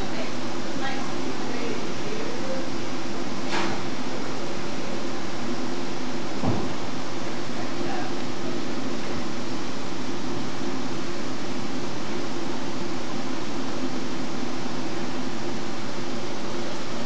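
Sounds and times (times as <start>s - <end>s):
machinery hum and hiss: 0.0s - 17.0s.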